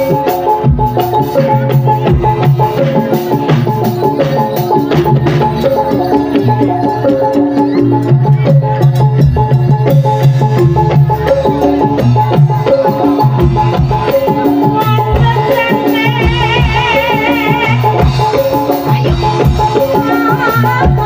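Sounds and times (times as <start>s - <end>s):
gong-chime and metallophone notes: 0.0s - 21.0s
high melody with vibrato: 0.0s - 21.0s
steady drum beats: 0.0s - 21.0s.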